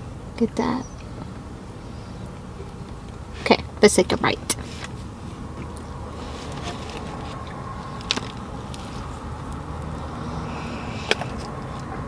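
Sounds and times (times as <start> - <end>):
low hum in car cabin: 0.0 - 12.0.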